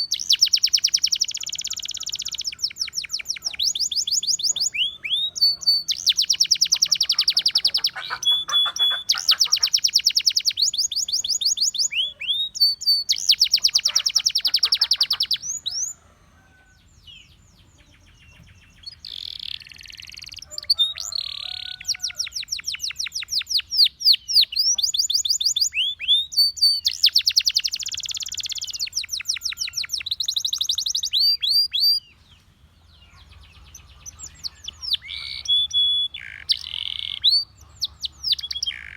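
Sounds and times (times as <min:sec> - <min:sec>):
canary singing trills: 0:00.0 - 0:16.0, 0:16.8 - 0:38.9.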